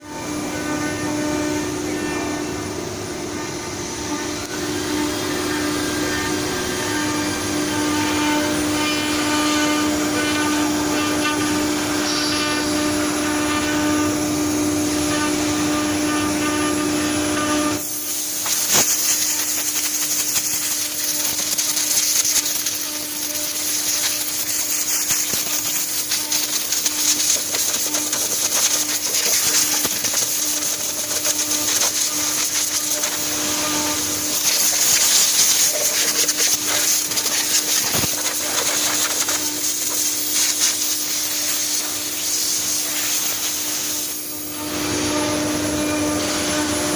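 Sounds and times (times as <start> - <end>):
cnc wood router humming: 0.0 - 19.5, 20.7 - 46.9.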